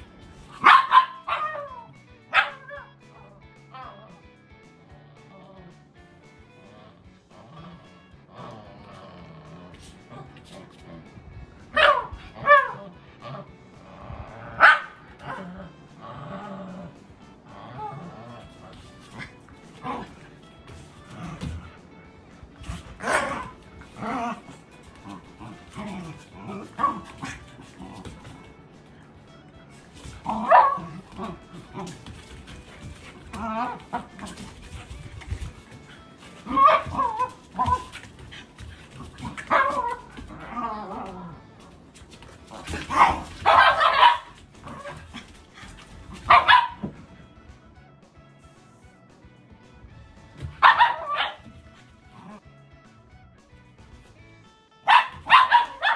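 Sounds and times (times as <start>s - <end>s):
dogs growling and barking: 0.0s - 47.3s, 50.2s - 52.5s, 54.9s - 55.9s.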